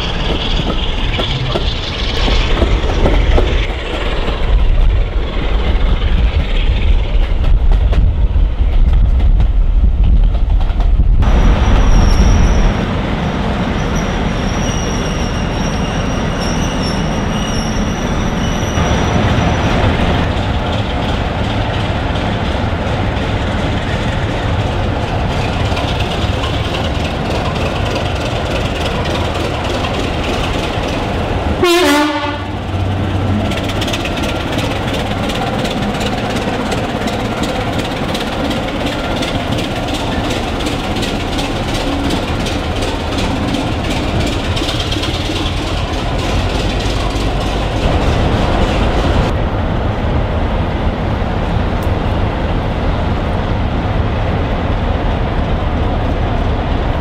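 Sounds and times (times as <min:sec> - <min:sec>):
diesel locomotive idling: 0:00.0 - 0:05.4, 0:12.9 - 0:54.1
train rumbling in tunnel: 0:00.0 - 0:57.0.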